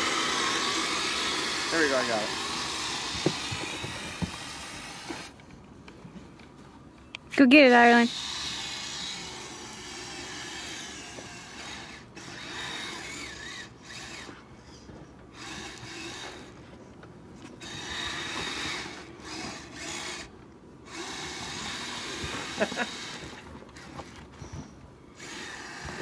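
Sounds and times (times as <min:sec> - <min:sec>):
toy vehicle motor whirring: 0:00.0 - 0:05.4, 0:07.6 - 0:16.7, 0:17.4 - 0:26.0.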